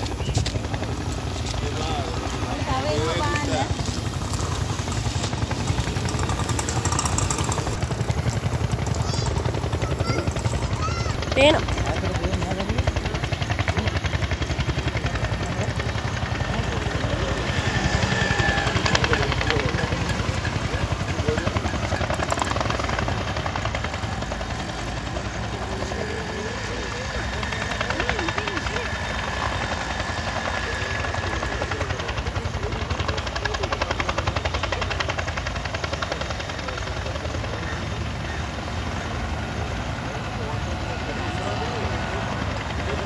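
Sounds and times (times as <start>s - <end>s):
helicopter rotors beating: 0.0s - 43.0s
turbine noise: 0.0s - 43.0s.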